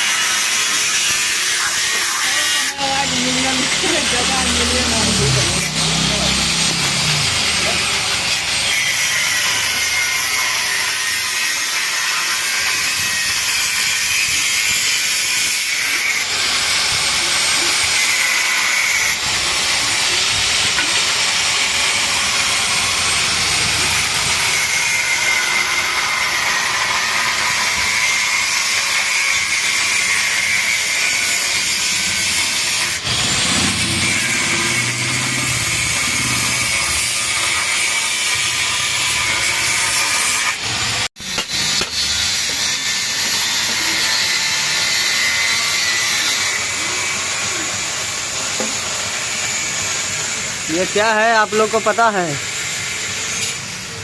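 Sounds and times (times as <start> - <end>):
power tool grinding steel: 0.0 - 54.0.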